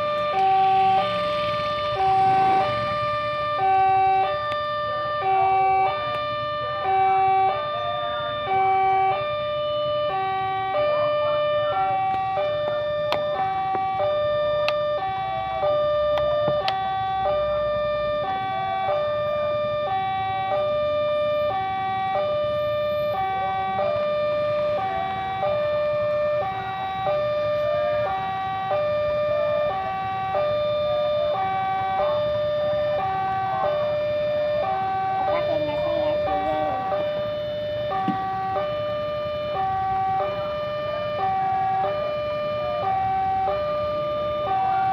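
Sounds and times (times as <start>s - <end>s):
level crossing two-tone alarm: 0.0s - 44.9s.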